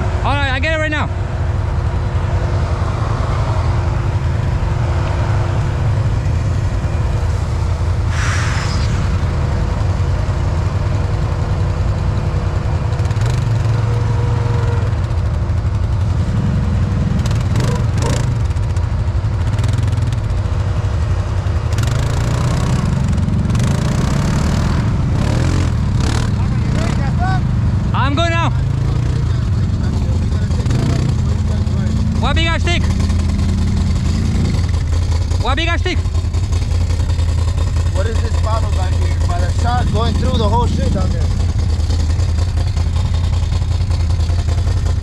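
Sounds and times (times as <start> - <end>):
atv engine running: 0.0 - 8.2, 8.8 - 45.0.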